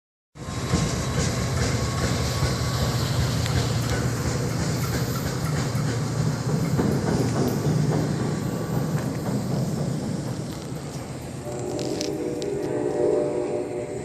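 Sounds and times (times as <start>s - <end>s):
train rumbling on rails: 0.4s - 14.0s
wheels clicking: 0.7s - 12.8s.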